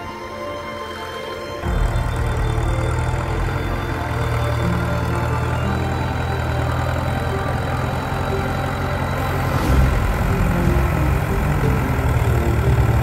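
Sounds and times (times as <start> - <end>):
tractor engine running: 1.6 - 13.0.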